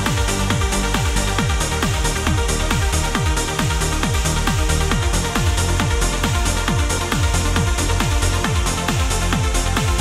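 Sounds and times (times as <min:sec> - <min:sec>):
kick drum beating: 0:00.0 - 0:10.0
trance dance music: 0:00.0 - 0:10.0.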